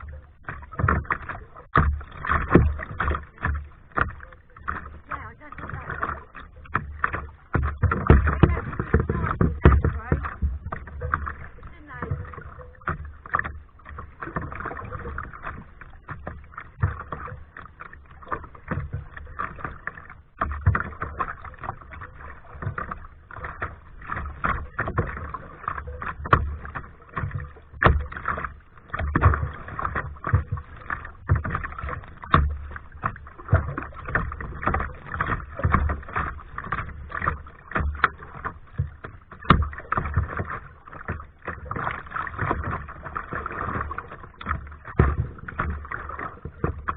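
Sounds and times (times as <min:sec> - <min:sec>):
paddle splashing in water: 0:00.0 - 0:46.9
water washing along hull: 0:00.0 - 0:46.9.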